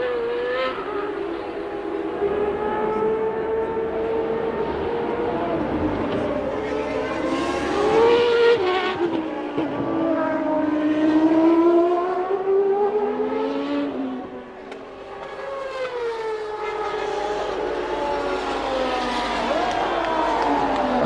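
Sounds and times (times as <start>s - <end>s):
racing car engine revving: 0.0s - 21.0s.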